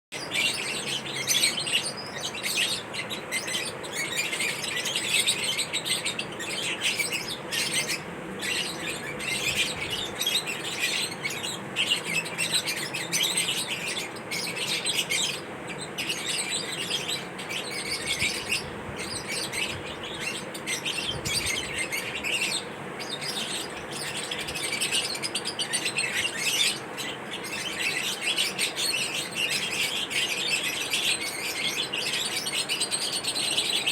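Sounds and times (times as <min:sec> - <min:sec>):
birds chirping high-pitched: 0:00.1 - 0:33.9.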